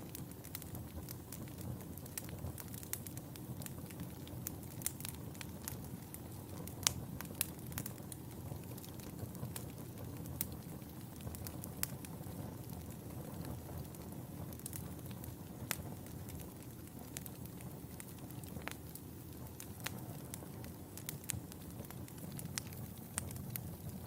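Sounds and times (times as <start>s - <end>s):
fire crackling in fireplace: 0.0s - 24.0s
sharp pops of fire: 0.0s - 24.0s.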